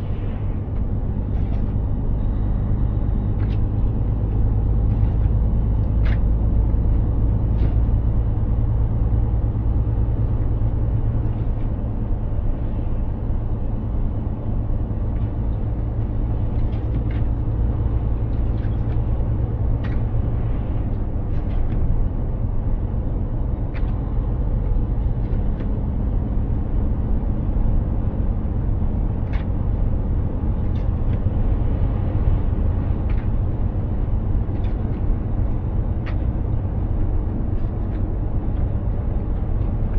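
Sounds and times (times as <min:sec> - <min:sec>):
tyre and road rumble: 0:00.0 - 0:39.9.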